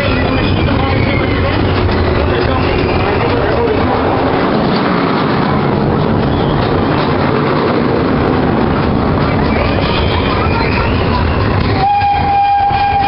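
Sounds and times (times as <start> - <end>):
train wheels rattling and rumbling: 0.0 - 13.0.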